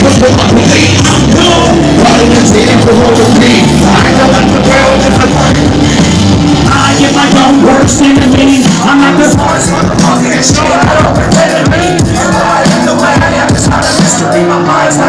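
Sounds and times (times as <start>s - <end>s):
loud live rock music: 0.0s - 15.0s
person singing: 0.0s - 15.0s.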